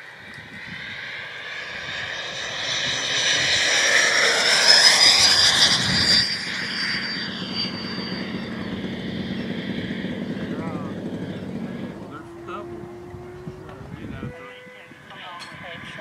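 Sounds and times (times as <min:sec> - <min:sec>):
jet ducted fan whining: 0:00.0 - 0:16.0.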